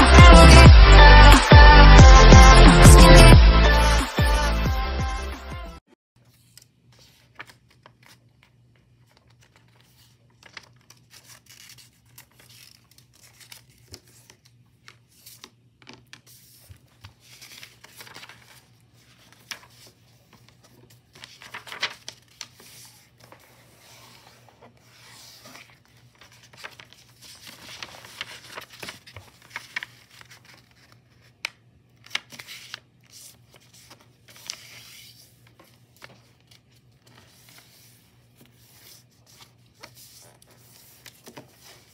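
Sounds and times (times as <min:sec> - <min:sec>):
paper rustling and sliding: 0:06.3 - 0:31.4, 0:32.1 - 0:41.9
paper fold swishes: 0:06.3 - 0:41.9.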